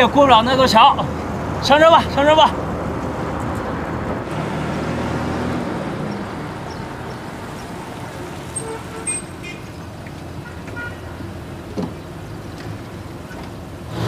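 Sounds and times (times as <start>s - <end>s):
minibus engine rumble: 0.0s - 14.0s.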